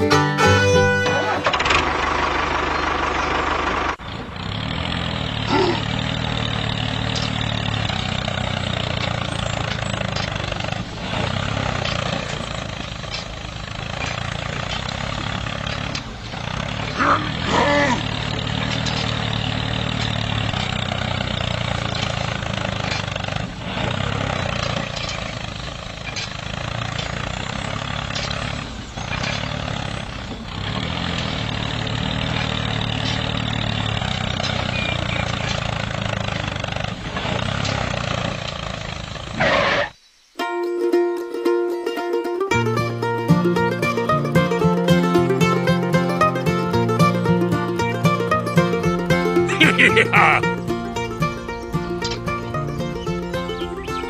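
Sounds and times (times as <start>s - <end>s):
model tractor motor humming: 0.0s - 40.0s, 42.5s - 54.0s.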